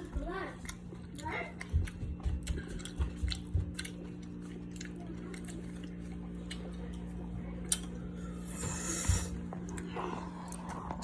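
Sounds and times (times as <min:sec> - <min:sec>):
person chewing food: 0:00.6 - 0:11.0.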